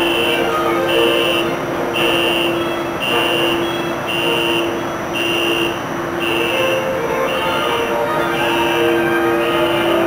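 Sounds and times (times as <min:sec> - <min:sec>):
machinery hum: 0:00.0 - 0:10.0
reversing alarm beeping: 0:00.0 - 0:10.0.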